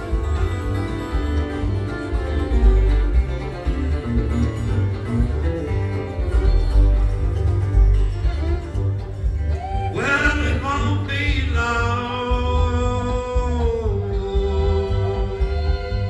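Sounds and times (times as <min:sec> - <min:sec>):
acoustic bluegrass band playing: 0:00.0 - 0:16.0.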